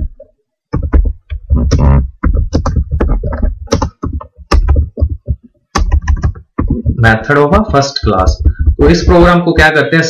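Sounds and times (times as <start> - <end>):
computer keyboard typing: 0.0 - 9.3.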